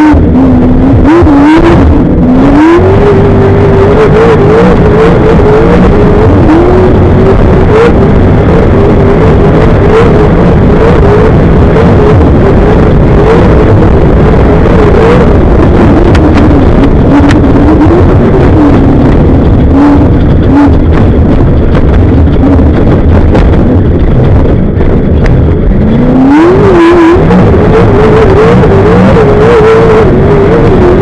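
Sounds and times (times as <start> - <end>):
race car engine under load: 0.0 - 31.0.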